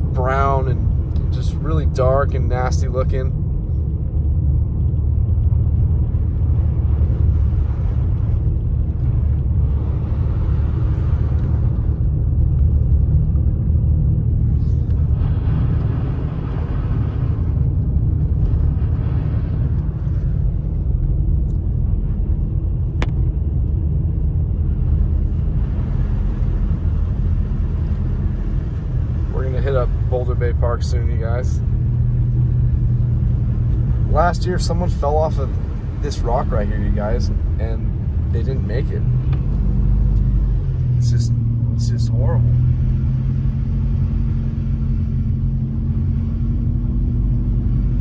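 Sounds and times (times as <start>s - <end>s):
car interior low rumble: 0.0s - 48.0s.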